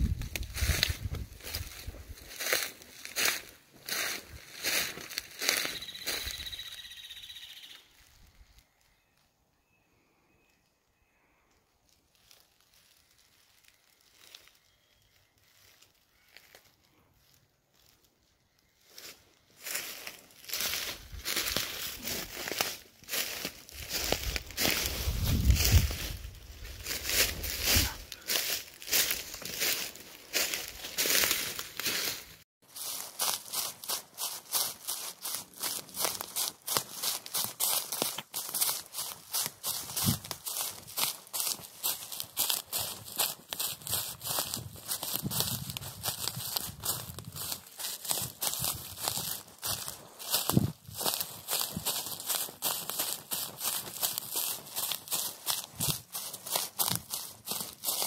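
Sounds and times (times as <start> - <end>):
footsteps on dry leaves: 0.0 - 8.8, 11.9 - 58.0.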